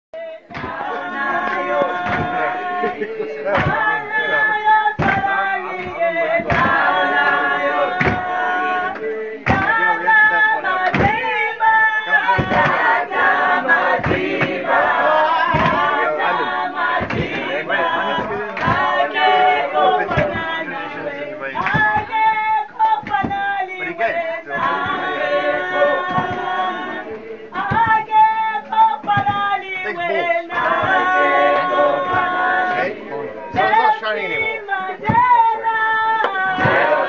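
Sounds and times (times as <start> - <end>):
group singing in chorus: 0.2 - 37.0.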